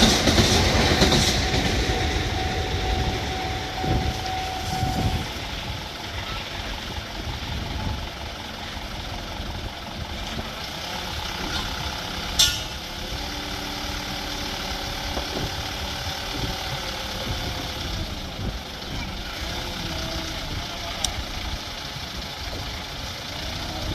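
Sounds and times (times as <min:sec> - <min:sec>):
vehicle engine running: 0:00.0 - 0:23.9.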